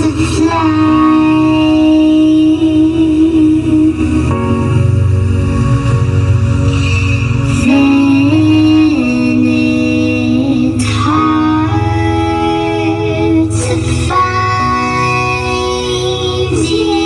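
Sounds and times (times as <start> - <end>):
deep bass: 0.0 - 17.0.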